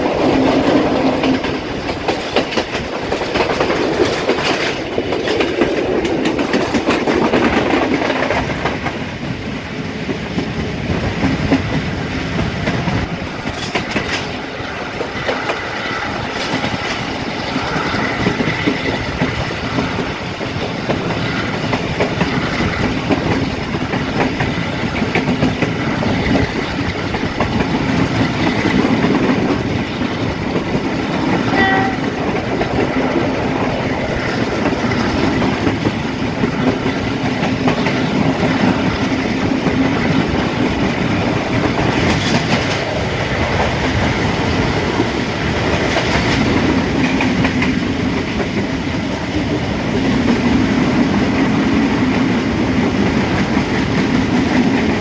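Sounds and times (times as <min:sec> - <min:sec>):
clickety-clack over rail joints: 0:00.0 - 0:55.0
train wheels rumbling on rails: 0:00.0 - 0:55.0
wind rushing: 0:00.0 - 0:55.0.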